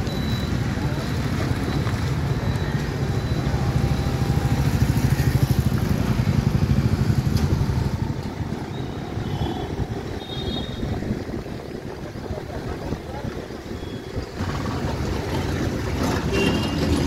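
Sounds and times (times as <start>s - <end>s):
steady traffic noise: 0.0s - 17.0s
vehicle engine rumble: 0.0s - 17.0s.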